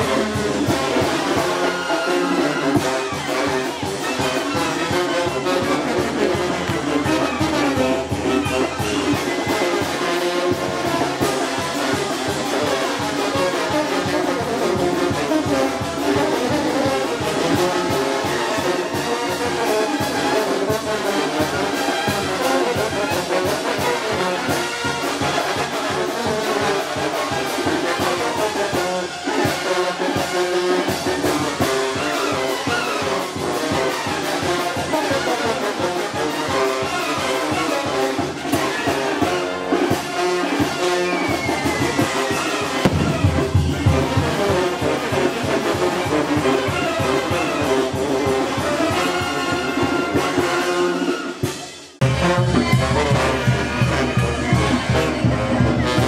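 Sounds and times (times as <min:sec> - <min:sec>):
brass band playing dance music: 0:00.0 - 0:56.0.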